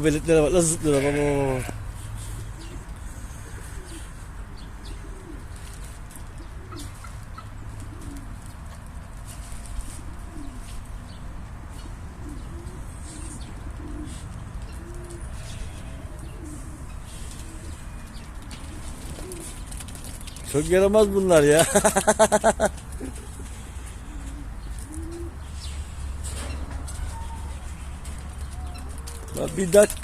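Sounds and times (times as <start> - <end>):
birds cooing: 0.0 - 30.0.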